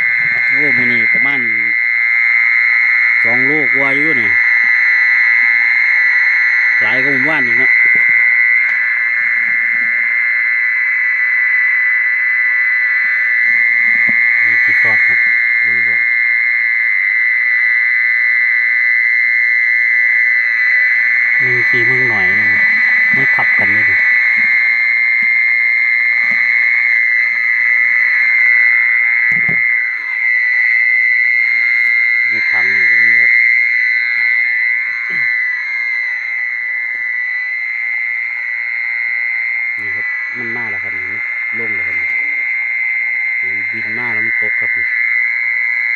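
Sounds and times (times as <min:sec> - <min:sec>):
mole cricket trill from speaker: 0:00.0 - 0:45.9.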